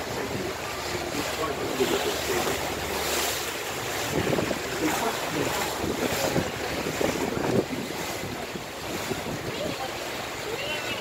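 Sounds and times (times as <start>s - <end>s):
water churning against hull: 0.0s - 11.0s
wind buffeting microphone: 0.0s - 11.0s.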